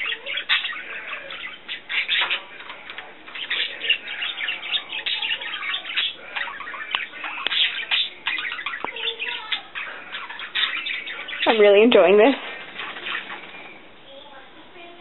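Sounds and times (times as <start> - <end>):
budgerigars chirping: 0.0 - 13.8.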